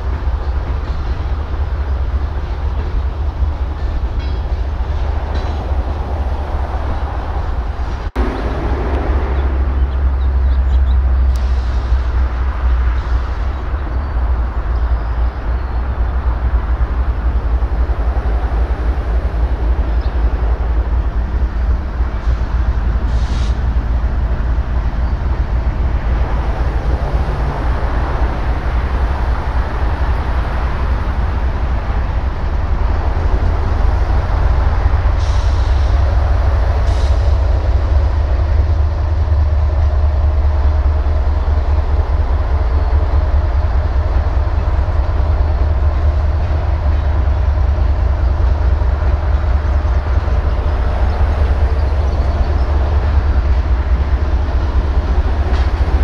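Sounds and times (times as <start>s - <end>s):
locomotive engine rumble: 0.0s - 56.0s.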